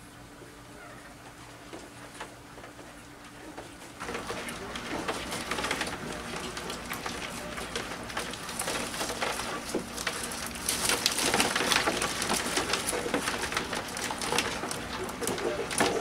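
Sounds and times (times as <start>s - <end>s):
crabs clicking and scraping: 1.2s - 16.0s.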